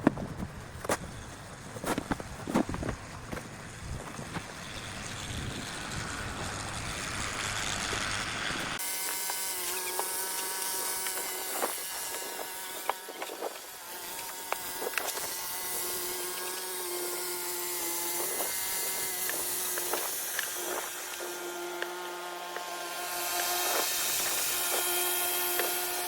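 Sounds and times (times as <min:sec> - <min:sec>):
small engine droning: 0:01.1 - 0:26.0.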